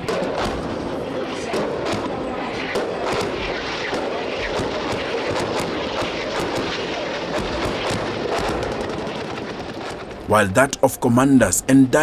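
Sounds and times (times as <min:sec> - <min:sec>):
explosion cracks and booms: 0:00.0 - 0:10.3
explosions rumble: 0:00.0 - 0:10.3.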